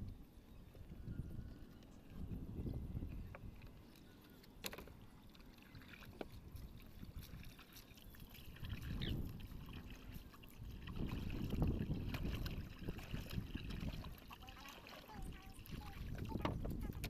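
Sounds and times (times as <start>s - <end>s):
pole swishing in water: 1.8s - 17.0s.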